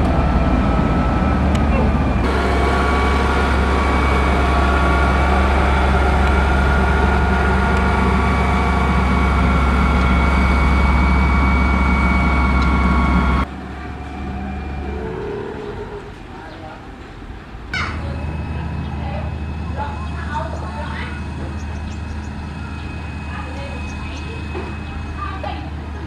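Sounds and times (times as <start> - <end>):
steady machine whine: 0.0 - 16.2, 17.9 - 26.0
diesel engine running loudly: 0.0 - 16.4, 17.7 - 26.0.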